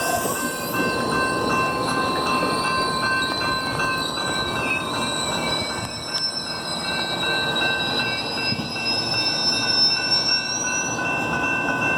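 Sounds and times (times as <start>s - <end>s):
low rolling train rumble: 0.0s - 11.9s
train wheels squealing on rails: 0.0s - 11.9s.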